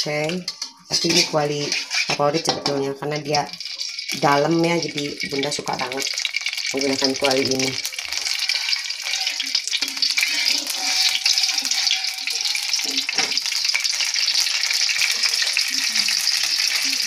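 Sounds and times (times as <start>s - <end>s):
metal spatula in wok: 0.0s - 17.0s
oil sizzling in a wok: 0.0s - 17.0s.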